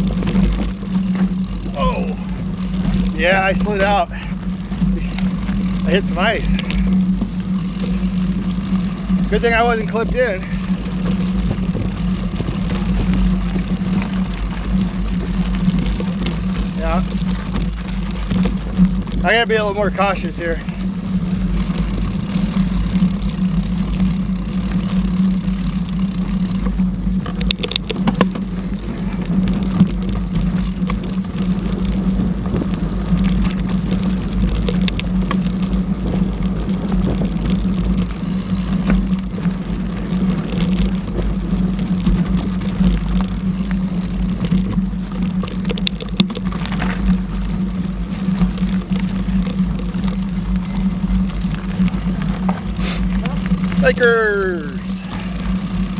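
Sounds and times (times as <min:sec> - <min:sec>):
wind on camera: 0:00.0 - 0:25.4, 0:26.4 - 0:55.9
bike clattering over bumps: 0:00.0 - 0:55.9
bike tyres rumbling on trail: 0:00.0 - 0:55.9.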